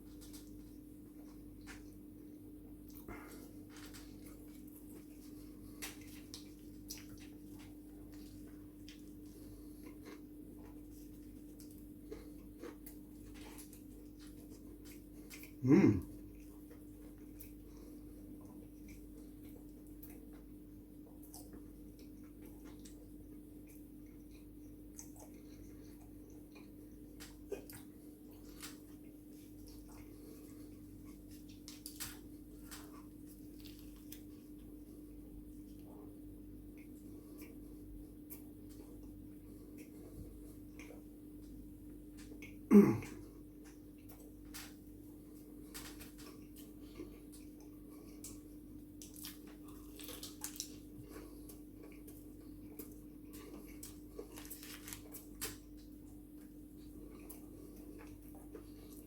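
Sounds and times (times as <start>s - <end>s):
chewing and lip smacks: 0.0s - 59.0s
steady low hum: 0.0s - 59.0s.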